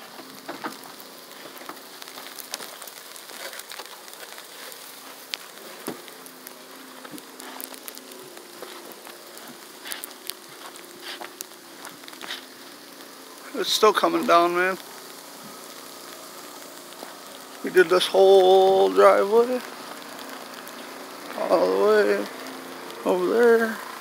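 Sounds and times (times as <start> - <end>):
falling snow pattering: 0.0 - 24.0
footsteps crunching in snow: 0.0 - 24.0.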